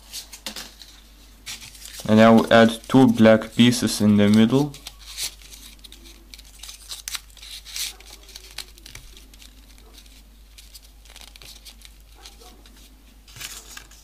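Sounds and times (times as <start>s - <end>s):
paper crinkling: 0.0s - 14.0s.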